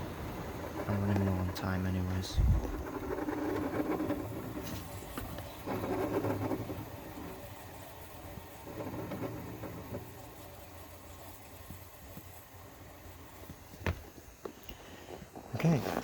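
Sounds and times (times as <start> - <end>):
refrigerant gurgling and hissing: 0.0 - 16.0.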